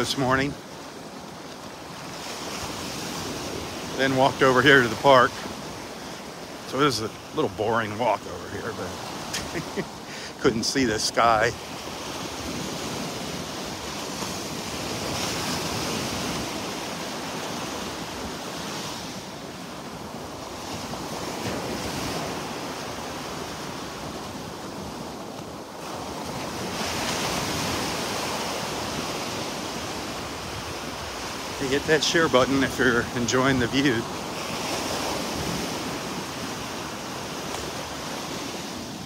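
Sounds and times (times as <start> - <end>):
surf washing onto beach: 0.0 - 39.0.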